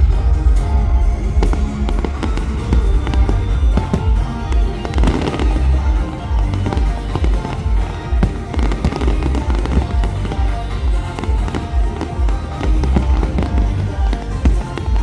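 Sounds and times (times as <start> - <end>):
deep rumble: 0.0 - 15.0
show music: 0.0 - 15.0
fireworks bangs and crackles: 0.6 - 15.0.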